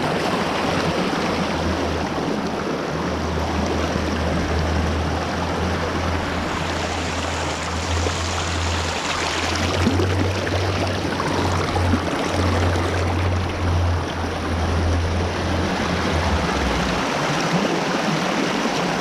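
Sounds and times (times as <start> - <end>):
creek water rushing over rocks: 0.0 - 19.0.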